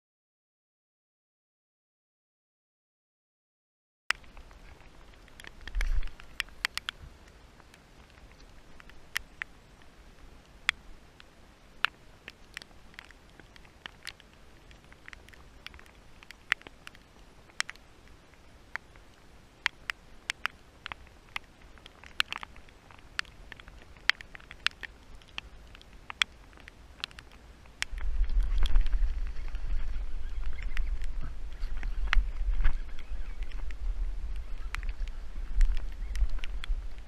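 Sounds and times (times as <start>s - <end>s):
light rain hiss: 4.1s - 37.0s
raindrops ticking: 4.1s - 37.0s.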